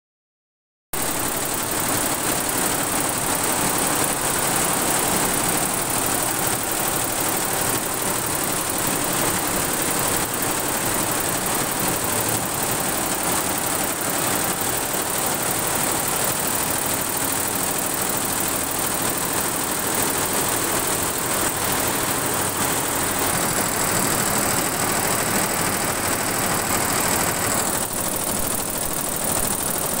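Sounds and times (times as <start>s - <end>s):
embroidery machine rattling: 1.0s - 30.0s.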